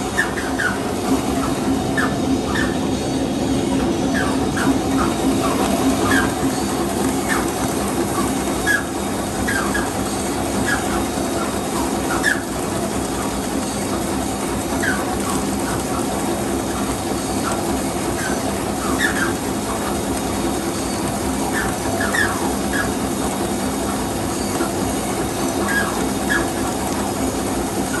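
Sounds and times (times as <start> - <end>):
machine hum and rattle: 0.0 - 28.0.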